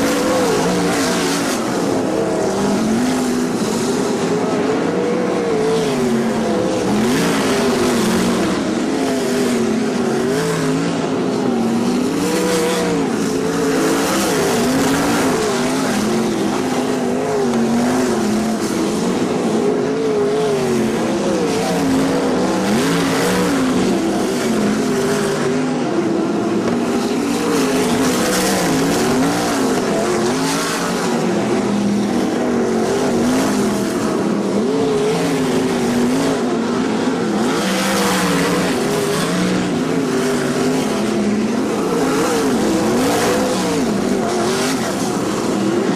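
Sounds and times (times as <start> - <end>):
race car engines: 0.0 - 45.9.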